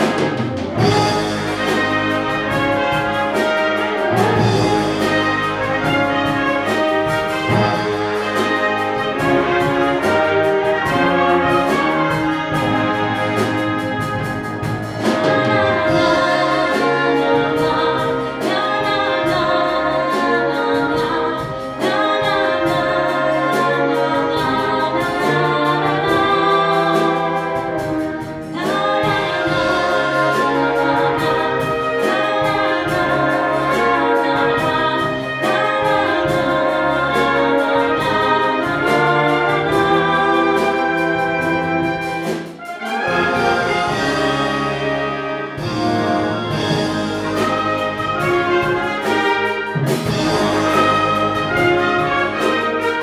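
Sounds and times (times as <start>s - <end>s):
concert wind band playing chords: 0.0s - 53.0s.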